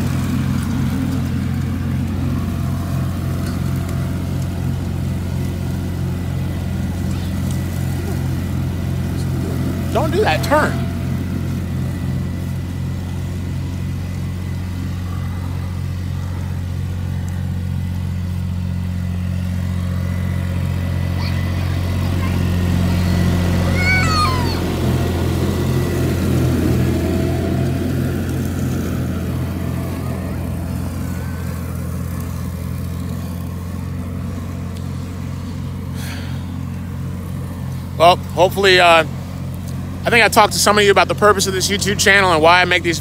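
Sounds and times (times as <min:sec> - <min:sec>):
diesel tractor engine running: 0:00.0 - 0:43.0.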